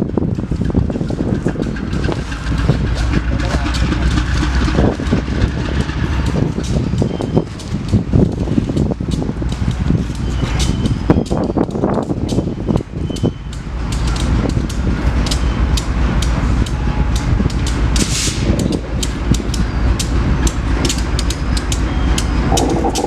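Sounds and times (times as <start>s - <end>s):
train rumbling past: 0.0s - 11.1s, 13.6s - 23.0s
train wheels clicking and clacking: 0.0s - 23.0s.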